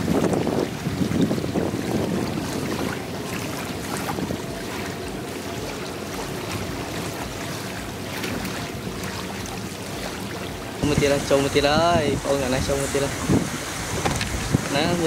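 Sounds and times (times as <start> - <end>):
river water lapping: 0.0 - 15.0
wind blowing across microphone: 0.0 - 15.0.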